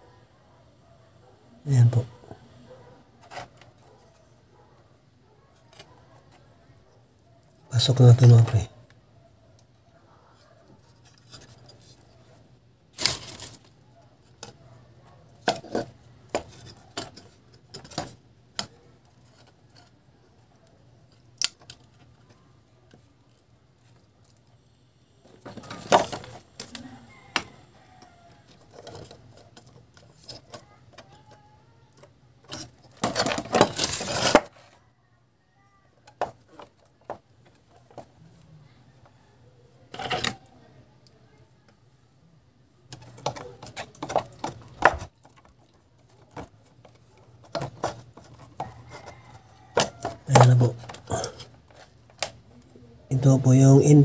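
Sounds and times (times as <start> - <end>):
noisy handling of parts: 1.7 - 6.5, 7.4 - 34.8, 35.9 - 39.2, 39.9 - 40.6, 42.8 - 53.3.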